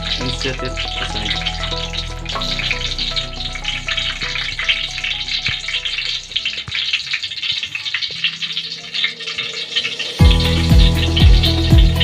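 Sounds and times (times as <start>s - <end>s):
deep-frying oil sizzling: 0.0s - 12.0s.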